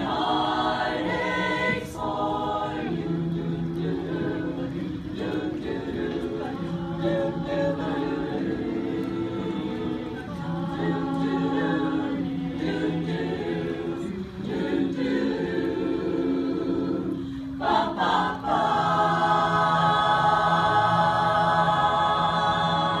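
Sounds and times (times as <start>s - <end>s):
women's choir singing: 0.0s - 23.0s.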